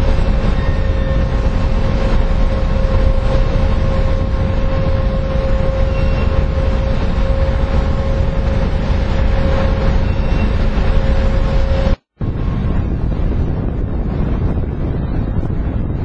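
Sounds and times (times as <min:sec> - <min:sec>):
ship machinery droning hum: 0:00.0 - 0:16.0
wind on microphone: 0:00.0 - 0:16.0.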